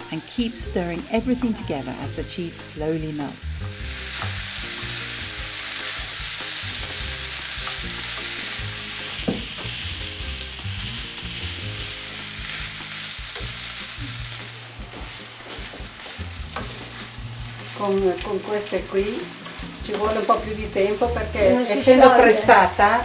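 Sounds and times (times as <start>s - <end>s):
potato sizzling in a frying pan: 0.1s - 23.0s.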